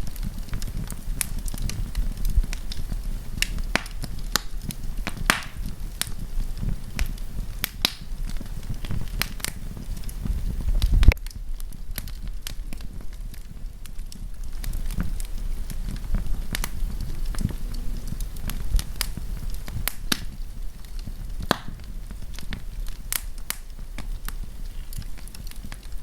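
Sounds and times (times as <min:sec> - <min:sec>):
campfire crackling and popping: 0:00.0 - 0:26.0
low rumble: 0:00.0 - 0:26.0.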